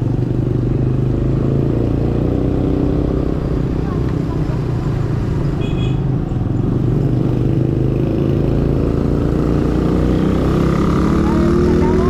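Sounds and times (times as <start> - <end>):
wind and road rumble: 0.0 - 12.0.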